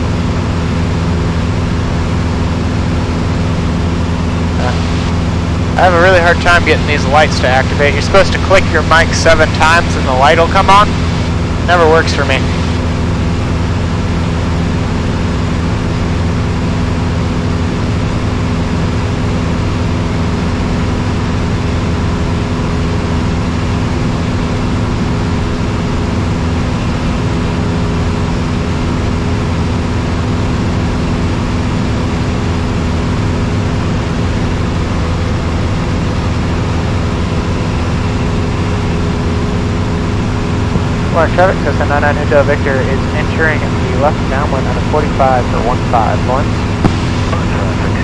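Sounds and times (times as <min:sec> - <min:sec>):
light aircraft engine droning: 0:00.0 - 0:48.0.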